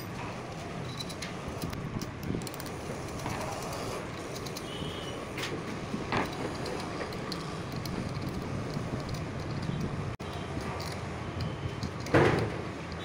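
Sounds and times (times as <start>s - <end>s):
metal clicks: 0.0s - 13.0s
steady background noise: 0.0s - 13.0s.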